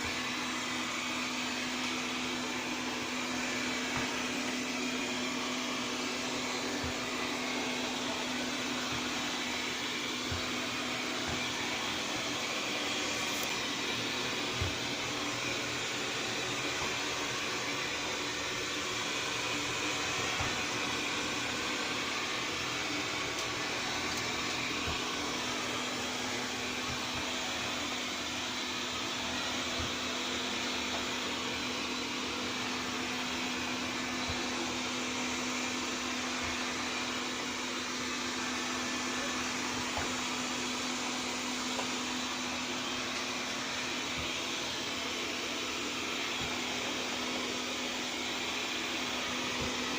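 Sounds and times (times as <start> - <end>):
robot vacuum suction fan whir: 0.0 - 49.9.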